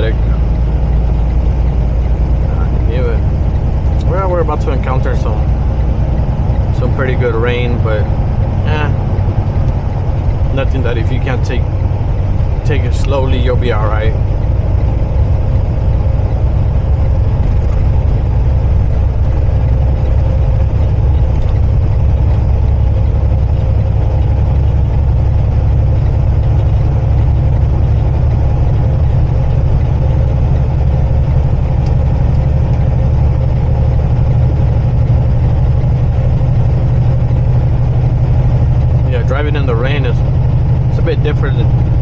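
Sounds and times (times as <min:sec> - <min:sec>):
diesel truck engine drone: 0:00.0 - 0:42.0
road noise: 0:00.0 - 0:42.0.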